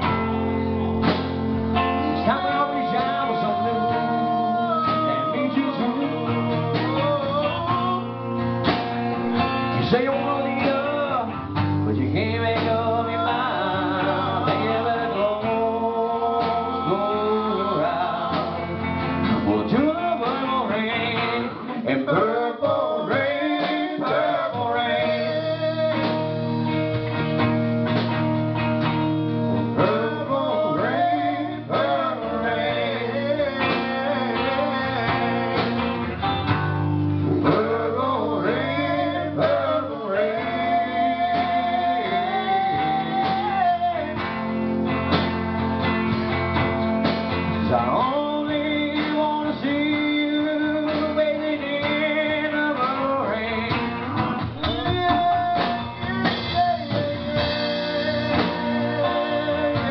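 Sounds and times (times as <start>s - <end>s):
acoustic guitar strumming: 0.0s - 59.9s
man singing: 0.8s - 8.4s, 9.2s - 26.8s, 29.6s - 36.5s, 37.2s - 44.4s, 47.5s - 59.9s.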